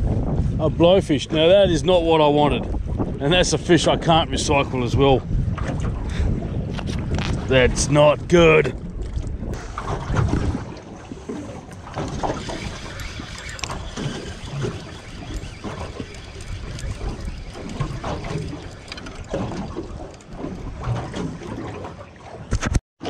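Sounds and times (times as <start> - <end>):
water slapping boat hull: 0.0 - 22.8
wind buffeting microphone: 0.0 - 22.8.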